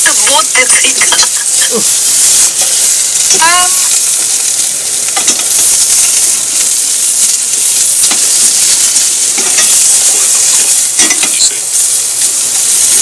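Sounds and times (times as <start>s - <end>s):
potato wedges sizzling in a pan: 0.0s - 13.0s.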